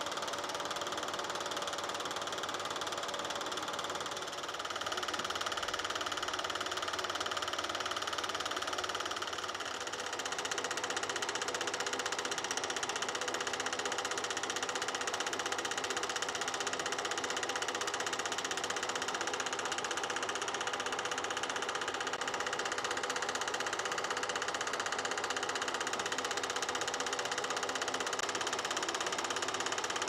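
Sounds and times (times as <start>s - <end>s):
film projector clatter: 0.0s - 30.0s
projector motor hum: 0.0s - 30.0s.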